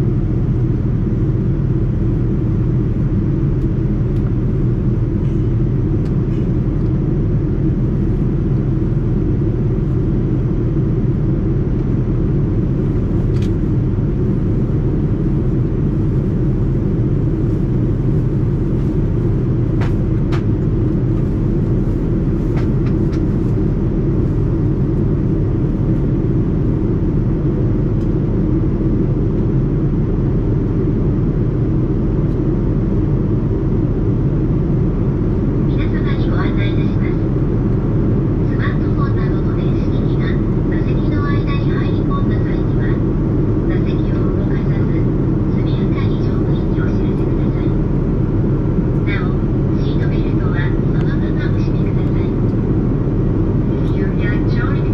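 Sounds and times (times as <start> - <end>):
airliner cabin engine and airflow noise: 0.0 - 54.9.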